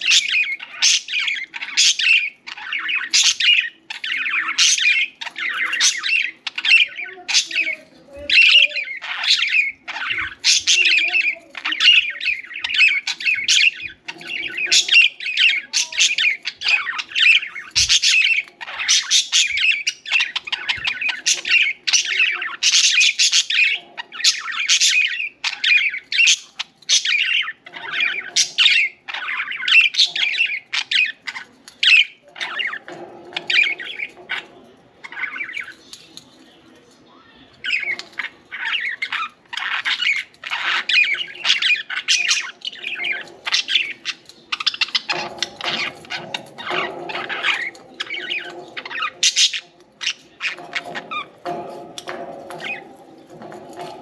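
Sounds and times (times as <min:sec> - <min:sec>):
budgerigars chirping: 0:00.0 - 0:36.1, 0:37.6 - 0:54.0.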